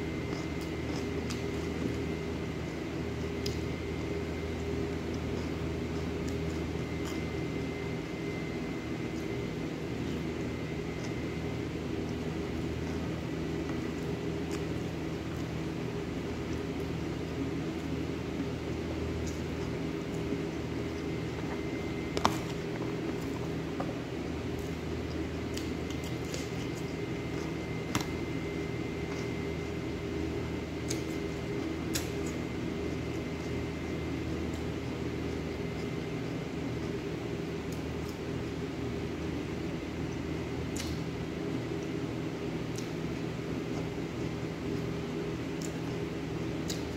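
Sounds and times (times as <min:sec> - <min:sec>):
faint high whine: 0:00.0 - 0:37.6
appliance humming: 0:00.0 - 0:46.9
squishy eating sounds: 0:00.0 - 0:46.9.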